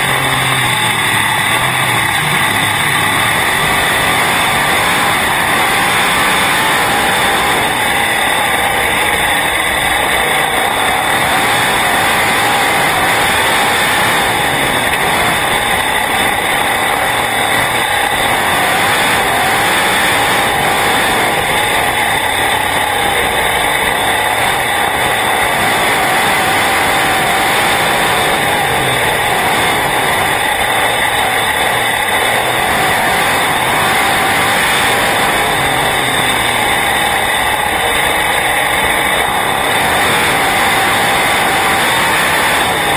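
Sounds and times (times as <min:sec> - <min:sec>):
race car engine at speed: 0:00.0 - 0:42.9.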